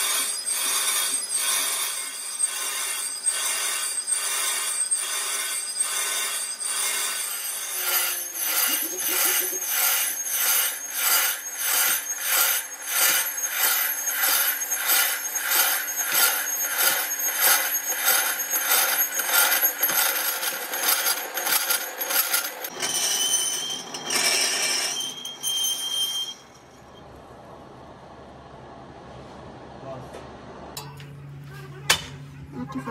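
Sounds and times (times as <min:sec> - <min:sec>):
high metallic ringing tones: 0:00.0 - 0:27.0, 0:30.8 - 0:31.4
lathe tool scraping metal: 0:00.0 - 0:27.0.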